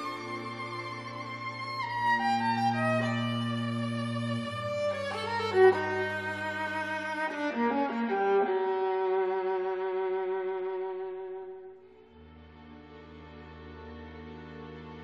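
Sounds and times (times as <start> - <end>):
viola and string orchestra: 0.0 - 15.0.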